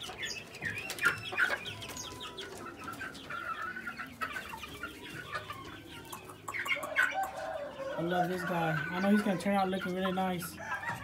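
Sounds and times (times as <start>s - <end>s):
young chickens clucking and chirping: 0.0s - 11.0s.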